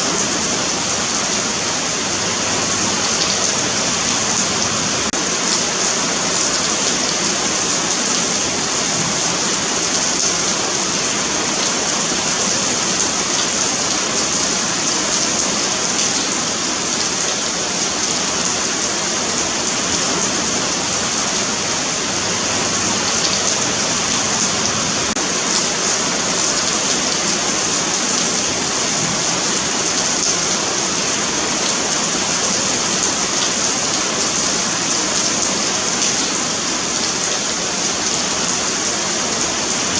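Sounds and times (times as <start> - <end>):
rain falling on pavement: 0.0 - 39.9.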